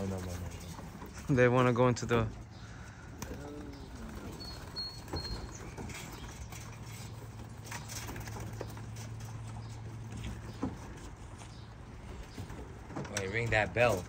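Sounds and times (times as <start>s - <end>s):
pigeons shuffling and tapping: 0.0s - 14.0s.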